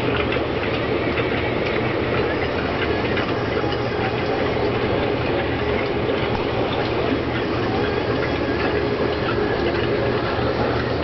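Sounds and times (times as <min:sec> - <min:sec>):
air pump hum: 0:00.0 - 0:11.0.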